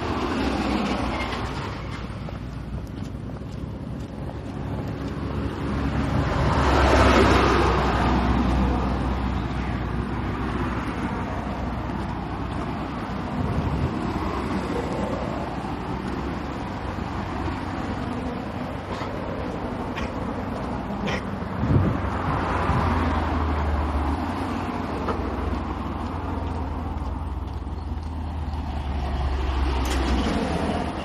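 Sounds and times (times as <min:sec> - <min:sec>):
low traffic rumble: 0:00.0 - 0:31.0
vehicle passing: 0:00.0 - 0:31.0.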